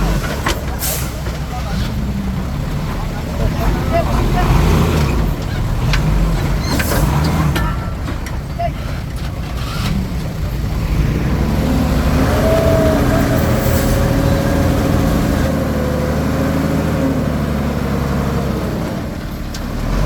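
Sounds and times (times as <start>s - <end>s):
bulldozer diesel engine under load: 0.0s - 20.0s.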